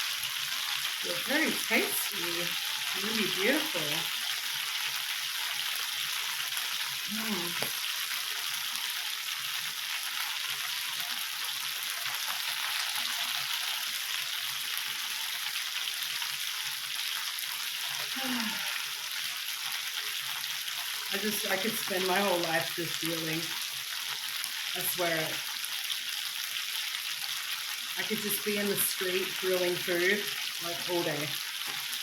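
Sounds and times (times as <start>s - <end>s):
chicken sizzling on a grill: 0.0s - 32.0s.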